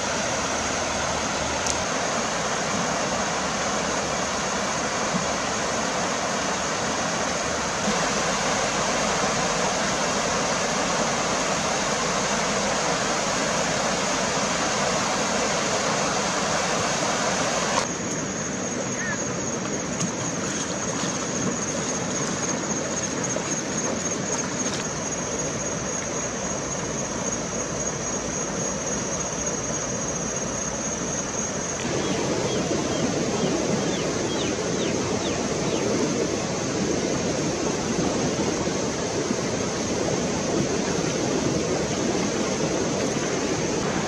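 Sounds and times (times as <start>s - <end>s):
river rushing over stones: 0.0s - 30.4s, 31.5s - 44.0s.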